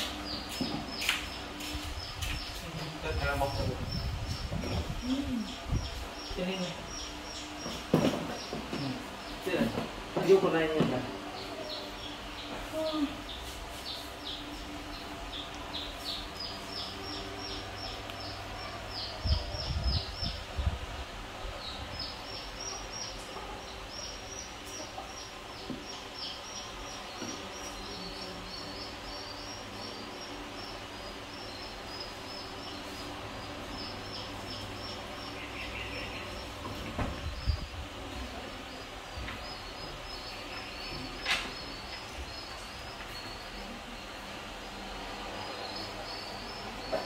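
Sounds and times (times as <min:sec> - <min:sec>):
steady background noise: 0:00.0 - 0:47.0.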